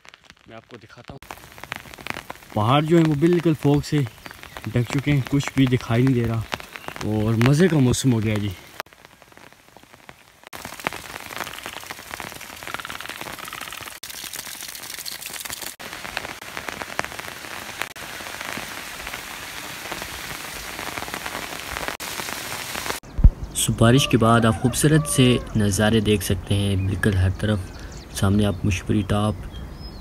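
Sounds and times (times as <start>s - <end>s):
rain pattering on leaves: 0.0s - 23.1s, 23.9s - 26.3s.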